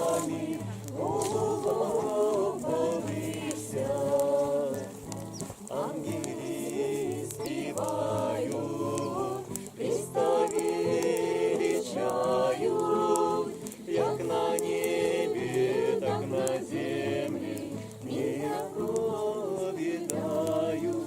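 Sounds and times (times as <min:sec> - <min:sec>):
group singing a cappella: 0:00.0 - 0:21.0.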